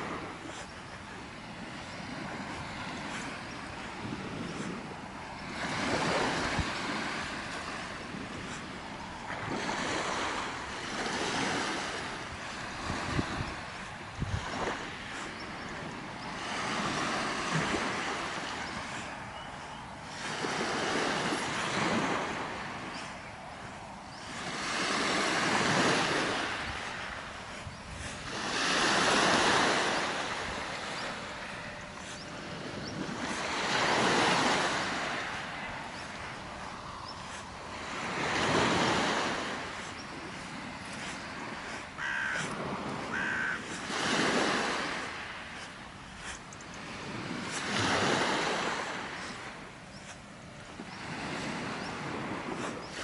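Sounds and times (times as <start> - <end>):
small waves washing on shore: 0.0 - 53.0.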